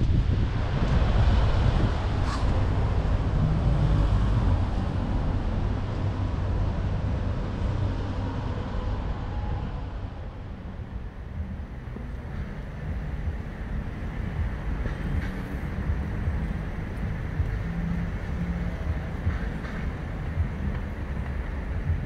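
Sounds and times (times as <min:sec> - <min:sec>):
distant traffic: 0:00.0 - 0:22.0
wind buffeting microphone: 0:00.0 - 0:22.0.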